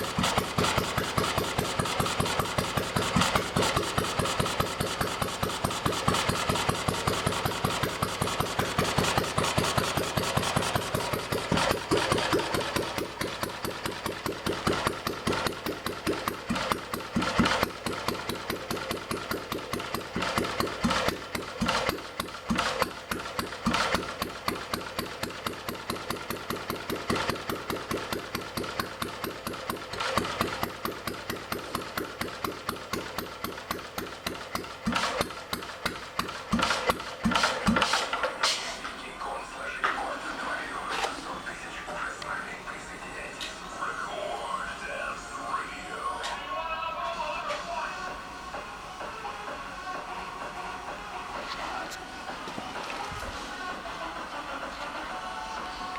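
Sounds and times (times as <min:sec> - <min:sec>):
two-stroke stationary engine running: 0:00.0 - 0:46.4, 0:47.2 - 0:55.9.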